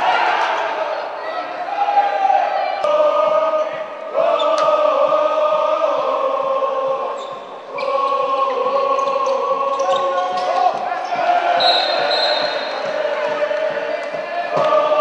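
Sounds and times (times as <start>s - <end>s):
crowd chanting: 0.0s - 15.0s.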